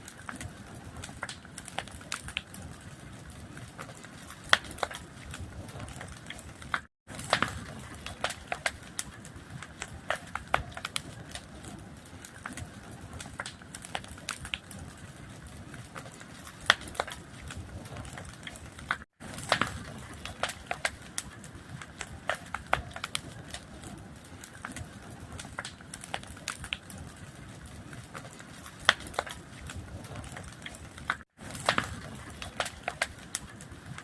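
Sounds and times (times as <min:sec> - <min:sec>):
fire crackling: 0:00.0 - 0:34.0.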